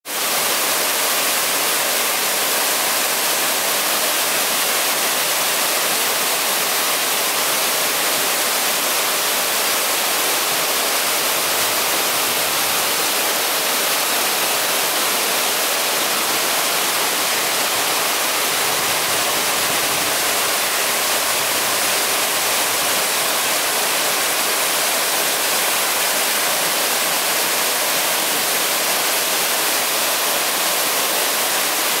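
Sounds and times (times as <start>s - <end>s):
waterfall rushing into pool: 0.1s - 32.0s.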